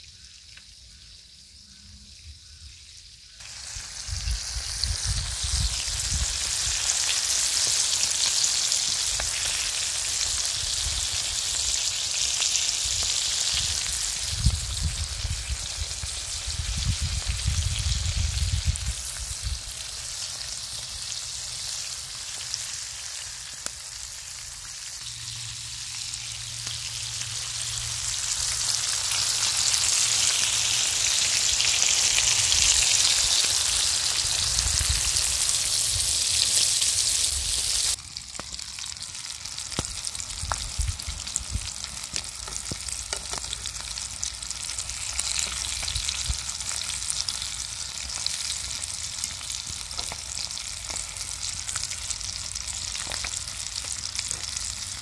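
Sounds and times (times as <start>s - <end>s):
fish sizzling in a frying pan: 2.8s - 55.0s.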